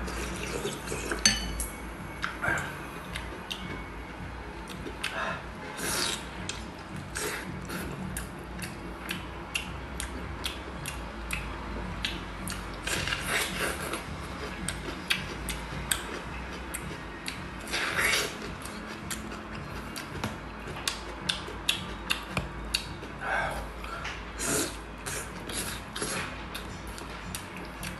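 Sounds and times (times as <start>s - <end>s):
chewing with wet clicks: 0.2s - 3.9s, 4.6s - 5.2s, 6.4s - 24.2s, 25.0s - 27.9s.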